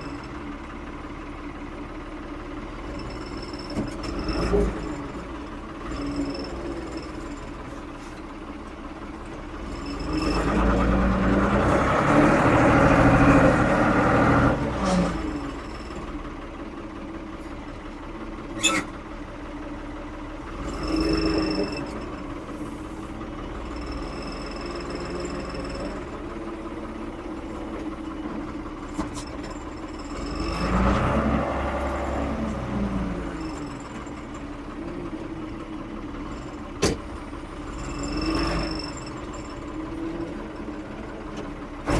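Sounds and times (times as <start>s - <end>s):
backhoe diesel engine running: 0.0s - 41.9s.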